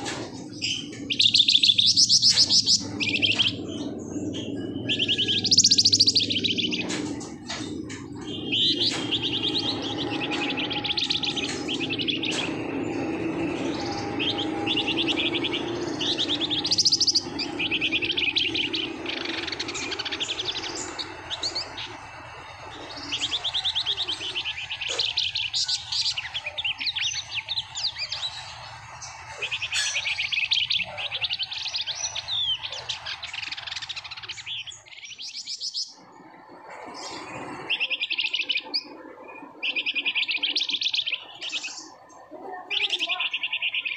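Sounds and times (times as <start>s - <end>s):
songbird trilling: 0.0s - 43.9s.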